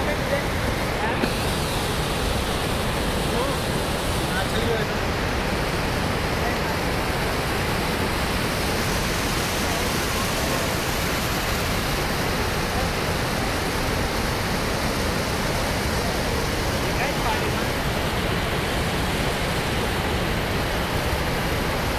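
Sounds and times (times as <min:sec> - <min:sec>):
rushing water over dam spillway: 0:00.0 - 0:21.9.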